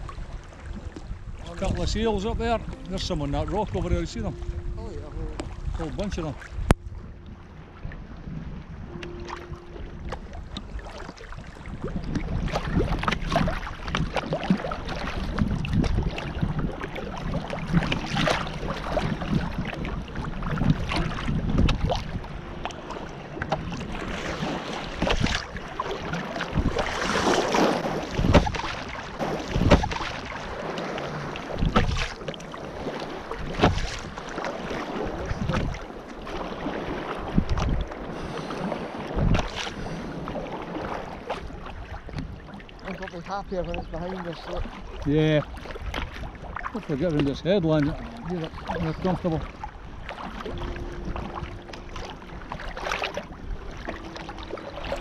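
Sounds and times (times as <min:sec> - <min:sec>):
paddle strokes: 0:00.0 - 0:55.0
waves splashing against kayak: 0:00.0 - 0:55.0
wind buffeting microphone: 0:00.0 - 0:55.0.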